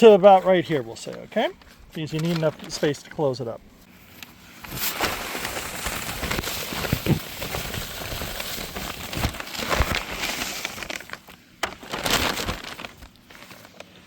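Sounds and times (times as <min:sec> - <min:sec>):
bag rustling and crinkling: 0:00.0 - 0:03.4, 0:04.4 - 0:14.0.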